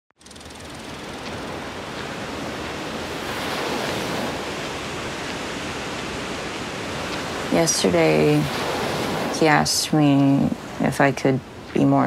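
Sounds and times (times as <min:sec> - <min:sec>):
ocean surf on rocky shore: 0:00.3 - 0:12.0.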